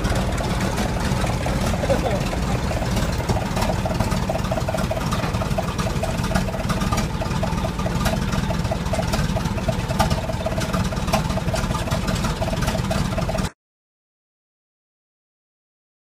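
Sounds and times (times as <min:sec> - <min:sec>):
rapid even ticking: 0:00.0 - 0:13.5
tractor engine rumbling: 0:00.0 - 0:13.5.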